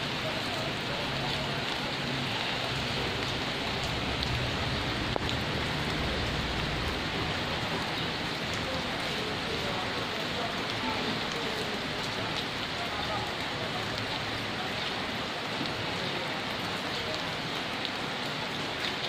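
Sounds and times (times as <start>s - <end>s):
rain on leaves: 0.0s - 19.0s.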